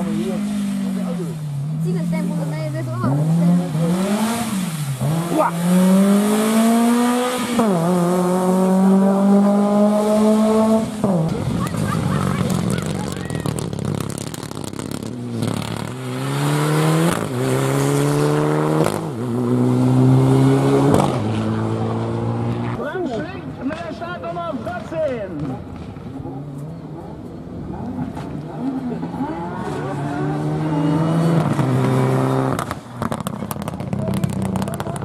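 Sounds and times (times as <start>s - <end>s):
rally car engine accelerating: 0.0s - 22.8s, 27.5s - 35.0s.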